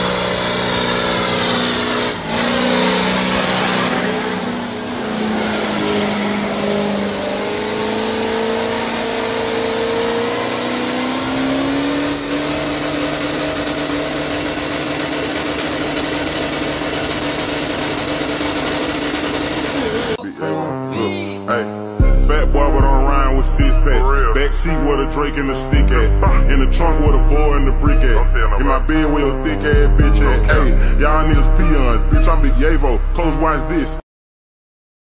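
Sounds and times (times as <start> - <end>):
truck engine revving high: 0.0 - 34.0.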